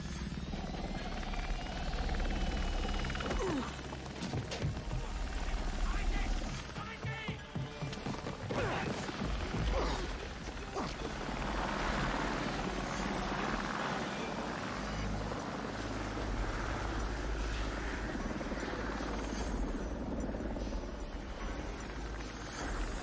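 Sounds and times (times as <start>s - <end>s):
helicopter turbine and rotor whine: 0.0s - 23.0s.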